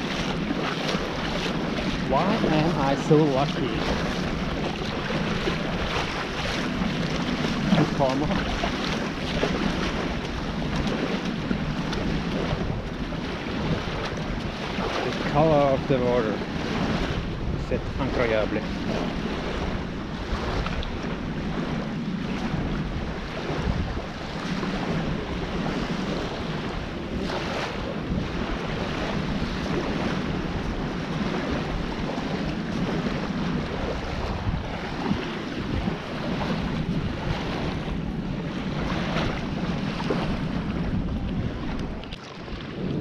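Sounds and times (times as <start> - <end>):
small waves on sandy shore: 0.0 - 43.0
wind buffeting microphone: 0.0 - 43.0.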